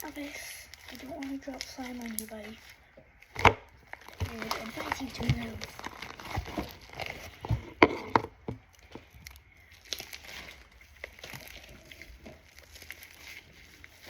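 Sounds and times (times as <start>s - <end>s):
slime crackling: 0.0s - 14.0s.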